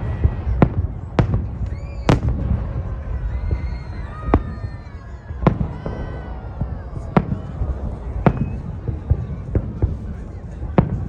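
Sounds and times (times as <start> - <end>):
fireworks bursting: 0.0 - 11.0
steady low rumble: 0.0 - 11.0.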